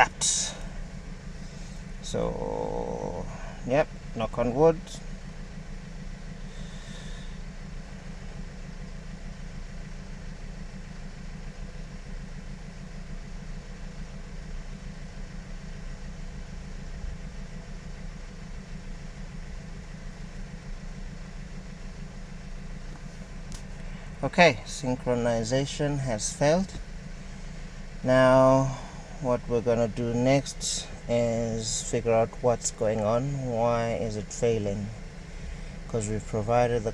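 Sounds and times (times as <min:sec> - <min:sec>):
low mechanical hum: 0:00.0 - 0:36.9.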